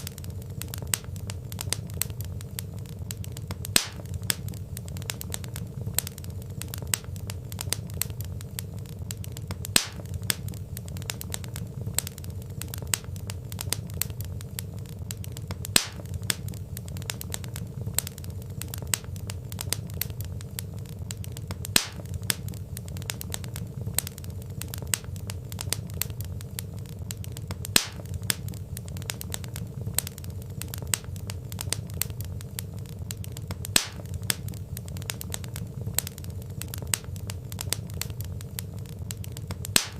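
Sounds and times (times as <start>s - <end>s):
fire popping: 0.0s - 39.9s
low steady rumble: 0.0s - 39.9s
wood fire crackling: 0.0s - 39.9s.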